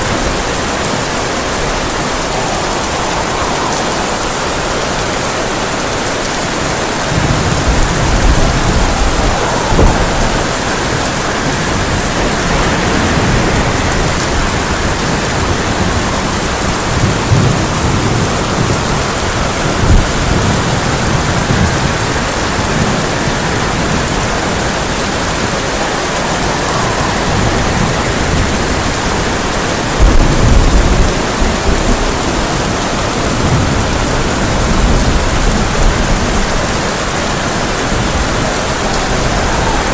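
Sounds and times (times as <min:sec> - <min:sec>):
rain on a tin roof: 0:00.0 - 0:39.9
thunder rumbling: 0:00.0 - 0:39.9.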